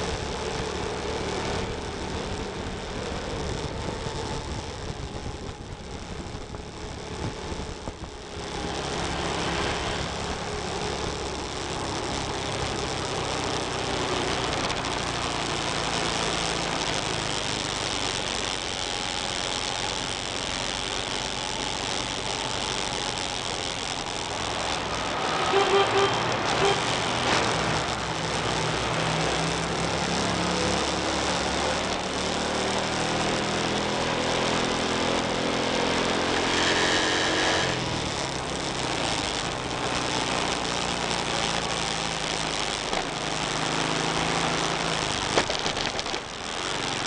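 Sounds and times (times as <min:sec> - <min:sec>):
motorcycle engine running: 0:00.0 - 0:47.0
wind and road noise: 0:00.0 - 0:47.0.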